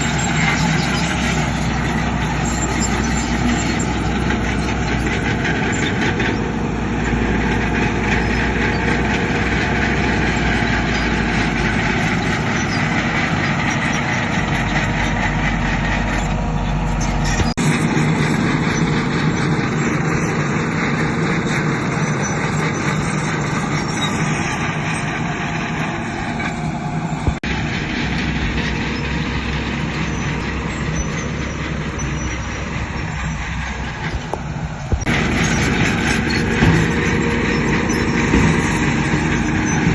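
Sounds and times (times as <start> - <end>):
heavy diesel machinery working: 0.0 - 39.9.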